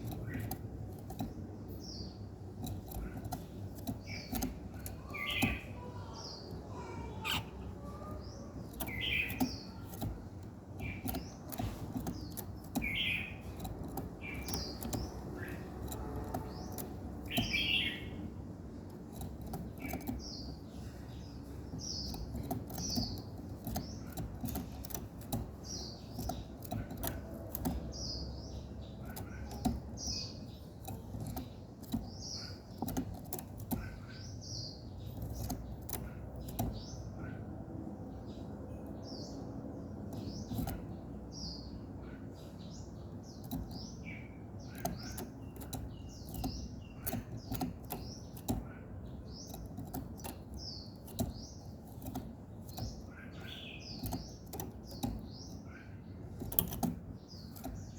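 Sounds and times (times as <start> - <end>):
sharp clicks: 0.0 - 41.6, 42.4 - 57.9
songbirds chirping: 0.0 - 57.9.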